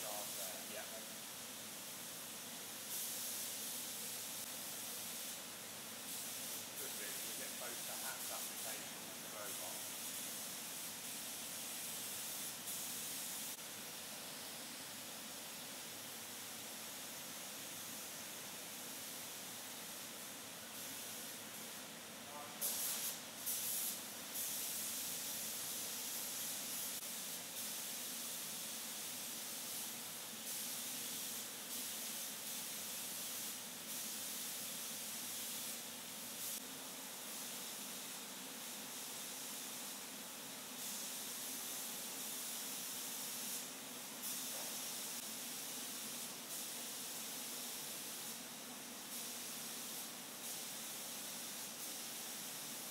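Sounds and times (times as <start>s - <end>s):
paint spray guns hissing: 0.0s - 52.9s.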